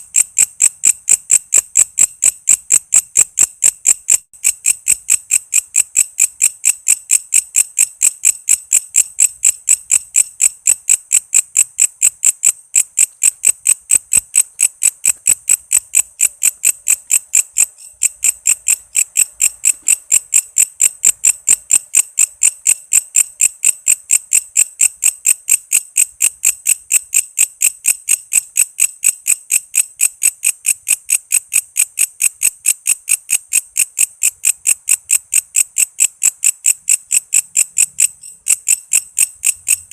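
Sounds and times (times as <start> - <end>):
insect chirping: 0.0 - 25.4, 30.2 - 39.9.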